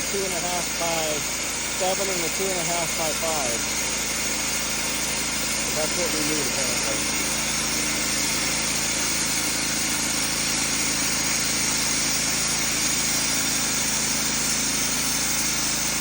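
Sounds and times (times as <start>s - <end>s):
sawmill engine and blade droning: 0.0s - 16.0s.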